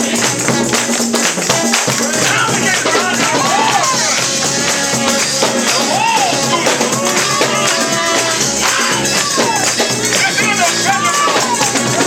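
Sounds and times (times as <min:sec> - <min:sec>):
gospel band playing: 0:00.0 - 0:12.0
tambourine shaking: 0:00.0 - 0:12.0.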